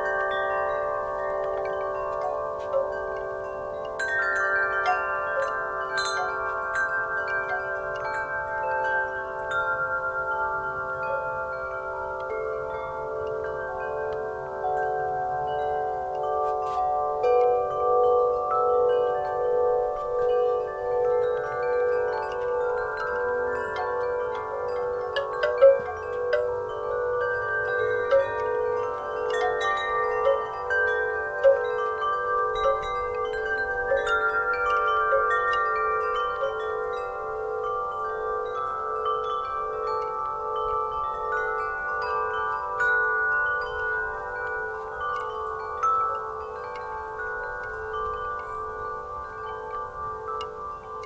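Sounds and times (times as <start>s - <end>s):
wind chimes ringing: 0.0s - 51.0s.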